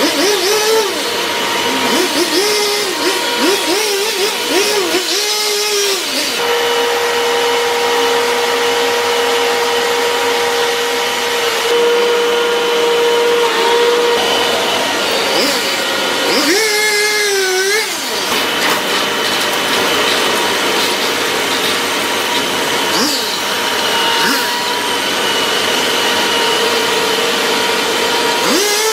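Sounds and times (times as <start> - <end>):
chainsaw engine running: 0.0 - 28.9.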